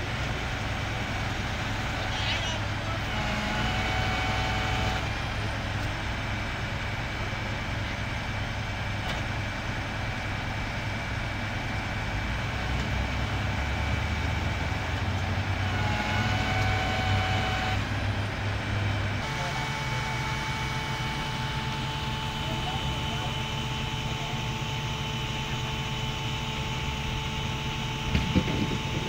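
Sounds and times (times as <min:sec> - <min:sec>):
hydraulic whine: 0:00.0 - 0:09.5, 0:10.1 - 0:29.0
truck engine running: 0:00.0 - 0:29.0.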